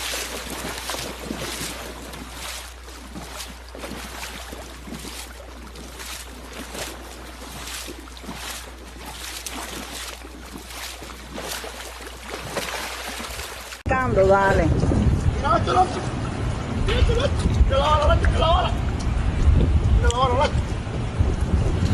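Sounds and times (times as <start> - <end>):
low rumble of water and wind: 0.0 - 21.9
water splashing: 0.0 - 21.9.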